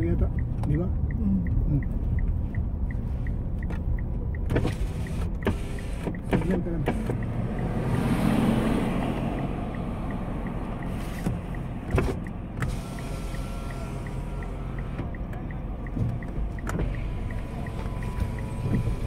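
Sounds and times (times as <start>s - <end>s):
engine and road rumble: 0.0s - 19.0s
light regular ticking: 0.0s - 19.0s.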